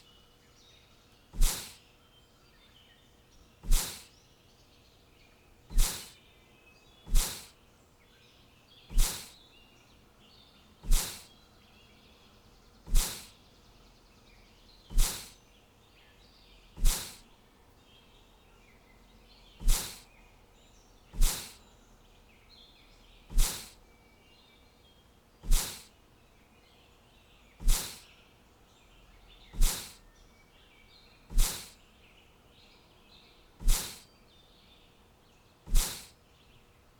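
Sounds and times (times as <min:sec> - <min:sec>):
faint bird chirps: 0:00.0 - 0:36.8.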